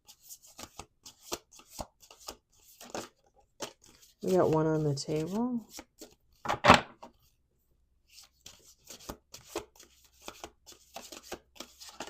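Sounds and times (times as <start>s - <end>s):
cards being shuffled: 0.1s - 7.2s, 8.1s - 12.0s.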